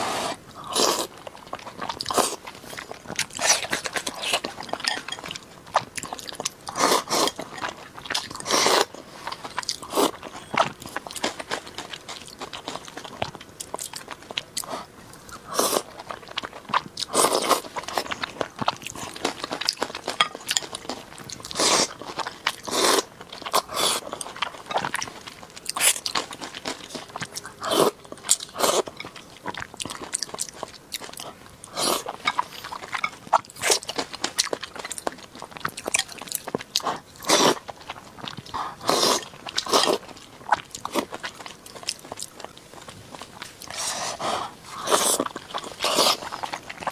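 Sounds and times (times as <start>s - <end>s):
person chewing and crunching: 0.0s - 46.9s.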